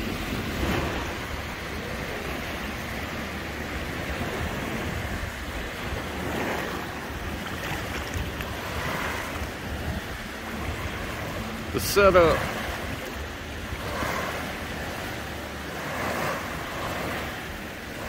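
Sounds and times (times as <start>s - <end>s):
small waves breaking on sand: 0.0s - 18.0s
wind rumbling on microphone: 0.0s - 18.0s.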